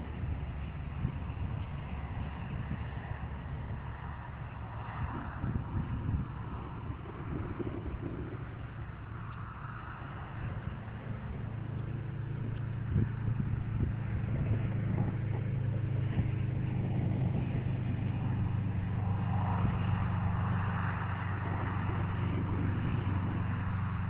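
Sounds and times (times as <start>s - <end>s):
car engine running: 4.3s - 24.0s.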